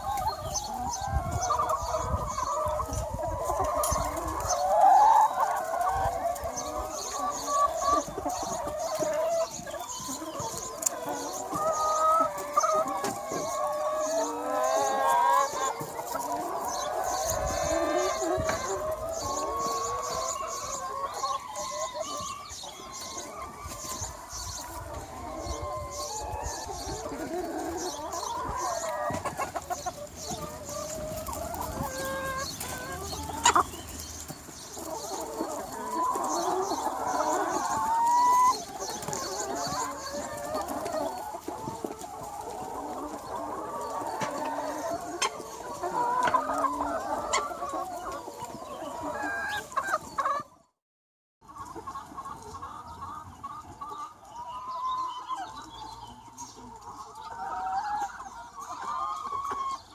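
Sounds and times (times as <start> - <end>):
hens clucking: 0.0 - 50.7, 51.4 - 59.9.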